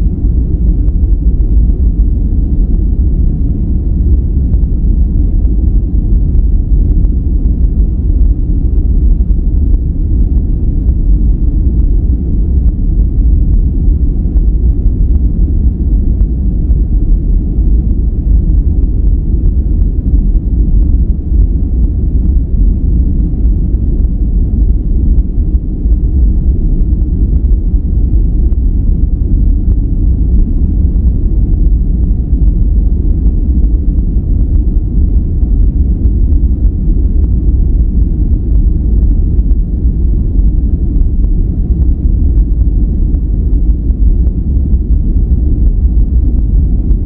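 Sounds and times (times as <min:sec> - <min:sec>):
deep rumbling synthetic noise: 0:00.0 - 0:47.0.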